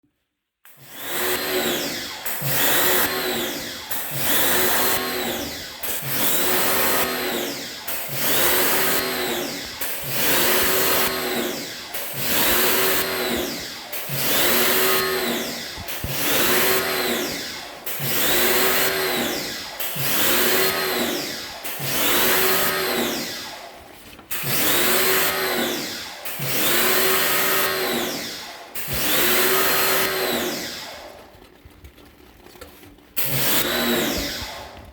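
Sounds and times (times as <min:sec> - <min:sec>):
pressure washer motor: 0:00.6 - 0:31.4, 0:33.2 - 0:34.9.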